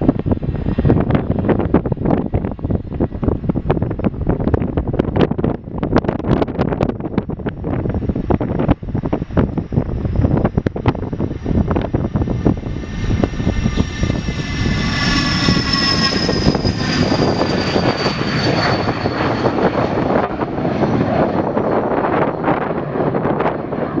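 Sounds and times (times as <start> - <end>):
jet turbine whine: 0.0 - 24.0
loud jet engine noise: 0.0 - 24.0.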